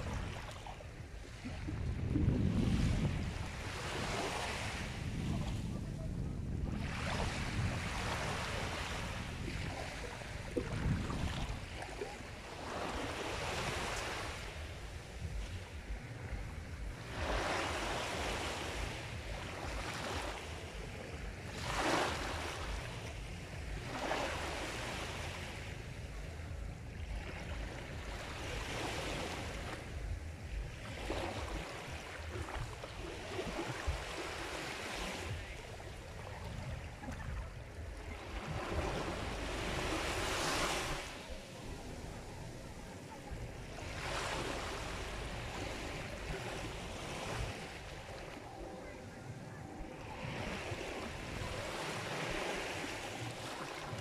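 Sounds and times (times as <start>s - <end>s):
low surf rumble: 0.0s - 21.5s, 22.1s - 34.5s, 35.2s - 51.7s
waves washing in: 0.0s - 54.0s.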